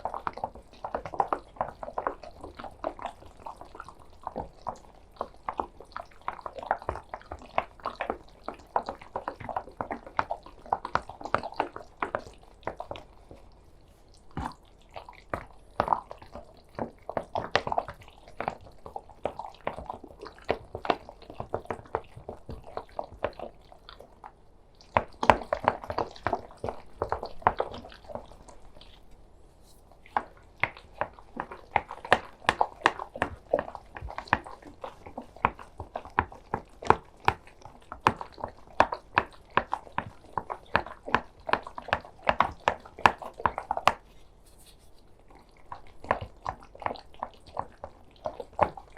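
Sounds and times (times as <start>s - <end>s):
food mixture squelching: 0.0s - 48.9s.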